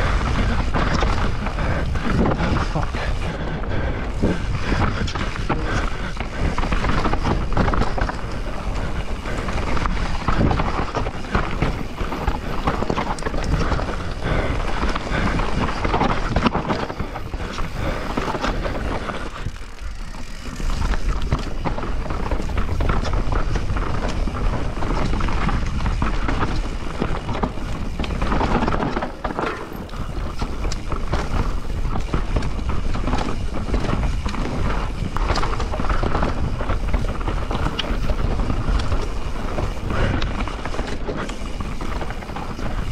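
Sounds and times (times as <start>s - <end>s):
bike tyres rolling over dirt: 0.0s - 42.9s.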